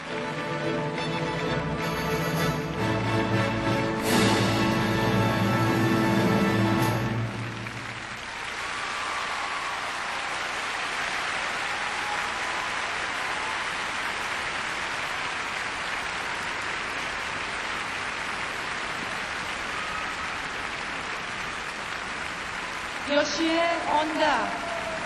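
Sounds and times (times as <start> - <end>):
arena crowd applauding: 0.0 - 2.3, 4.6 - 25.0.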